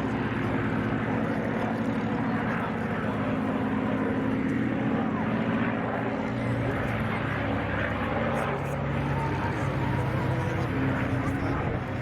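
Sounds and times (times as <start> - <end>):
propeller aircraft engine drone: 0.0 - 12.0.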